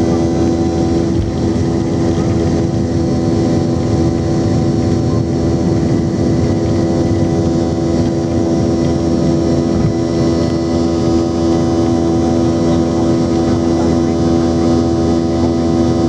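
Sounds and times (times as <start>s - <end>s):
jet engines humming in cabin: 0.0s - 16.0s.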